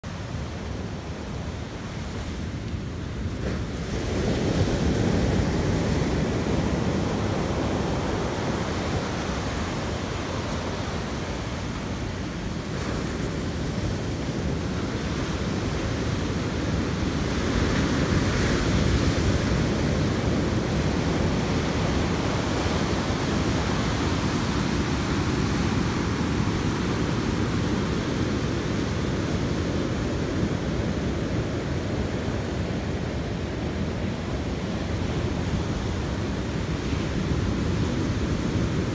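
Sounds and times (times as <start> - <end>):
ocean waves breaking on beach: 0.1 - 38.9.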